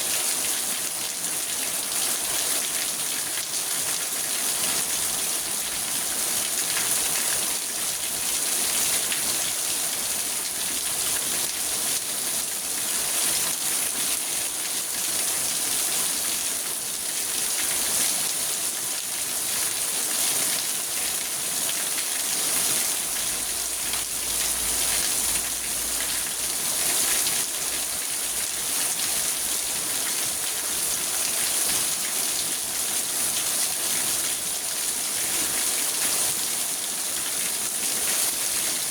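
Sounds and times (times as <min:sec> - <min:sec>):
rain on a car roof: 0:00.2 - 0:13.0, 0:18.6 - 0:38.9.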